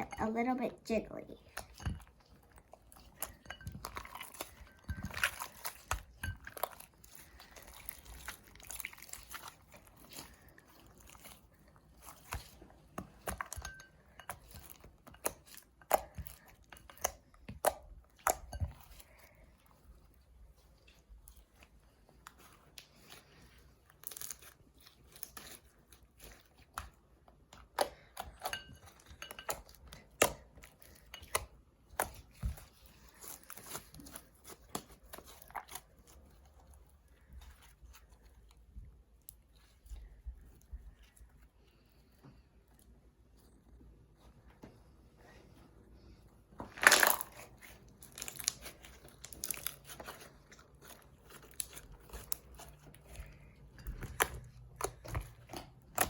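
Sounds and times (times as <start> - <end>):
hands squelching wet slime: 0.0 - 44.3, 46.4 - 56.0.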